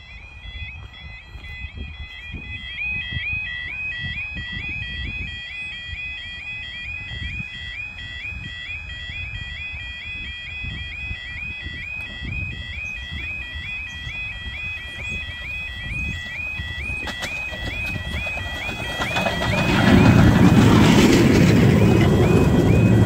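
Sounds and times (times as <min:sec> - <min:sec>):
two-tone electronic warning alarm: 0:00.0 - 0:23.0.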